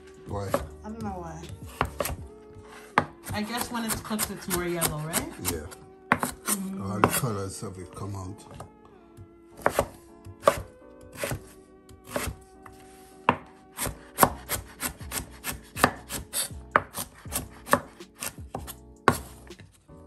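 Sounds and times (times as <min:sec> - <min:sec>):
knife chopping on wooden board: 0:00.4 - 0:00.8, 0:01.4 - 0:07.4, 0:09.5 - 0:19.7.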